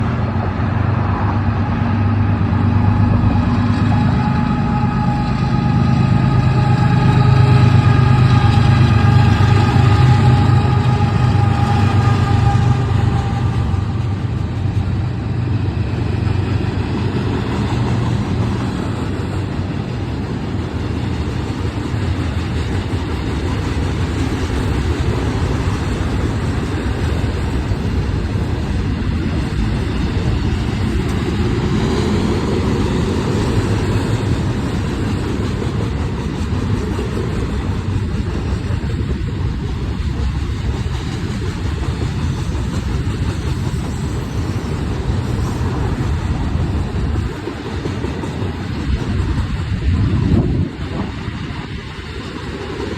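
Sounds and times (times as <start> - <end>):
diesel locomotive rumble: 0.0 - 52.9.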